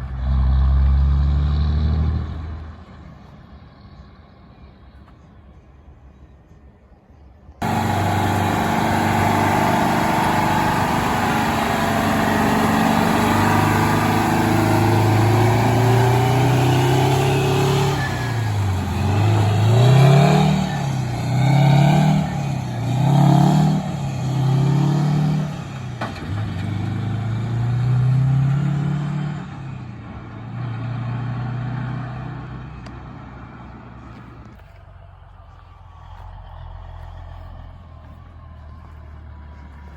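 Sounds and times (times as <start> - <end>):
truck engine revving: 7.6 - 39.9.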